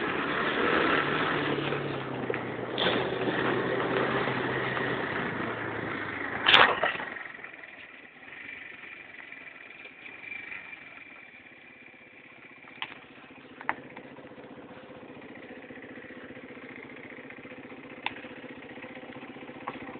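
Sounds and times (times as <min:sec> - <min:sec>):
quad engine running: 0:00.0 - 0:19.9.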